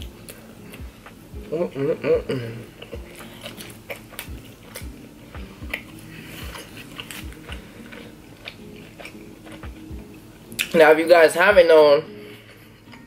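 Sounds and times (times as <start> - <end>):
person chewing: 0.0 - 10.8.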